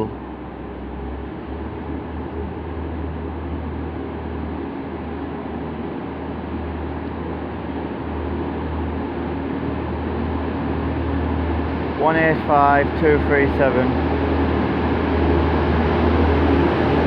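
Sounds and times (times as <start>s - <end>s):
diesel train low drone: 0.0s - 17.0s.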